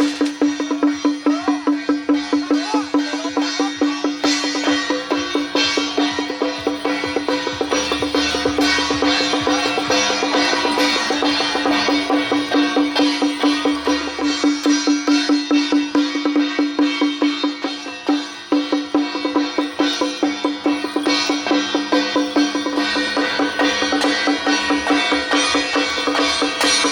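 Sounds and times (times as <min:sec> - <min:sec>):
quick percussion beat: 0:00.0 - 0:26.9.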